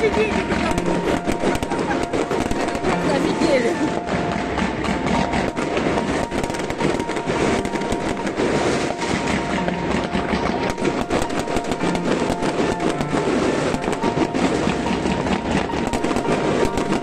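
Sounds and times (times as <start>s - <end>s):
fireworks bangs: 0.0s - 17.0s
fireworks crackling and popping: 0.0s - 17.0s.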